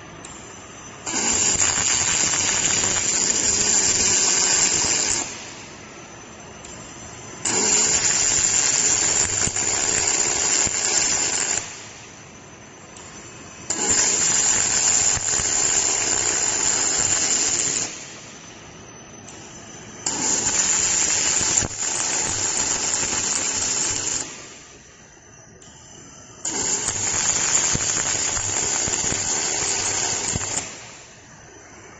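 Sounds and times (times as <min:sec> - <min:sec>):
welding arc: 0:00.3 - 0:05.9, 0:06.7 - 0:12.2, 0:13.0 - 0:18.4, 0:19.3 - 0:24.8, 0:26.4 - 0:31.8.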